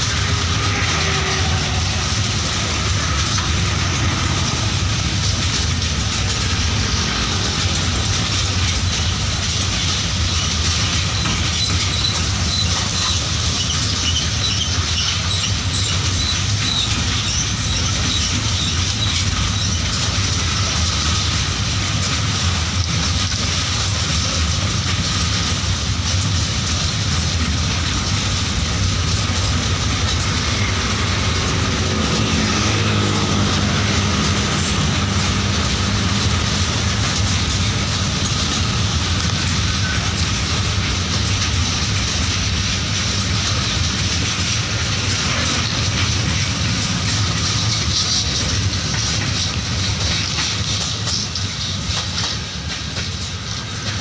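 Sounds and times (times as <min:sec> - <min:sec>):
freight train wagons rolling past: 0:00.0 - 0:54.0.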